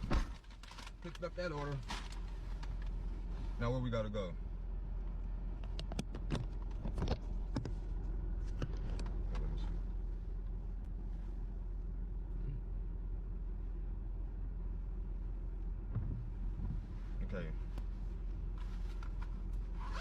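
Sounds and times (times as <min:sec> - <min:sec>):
car running rumble inside cabin: 0:00.0 - 0:20.0.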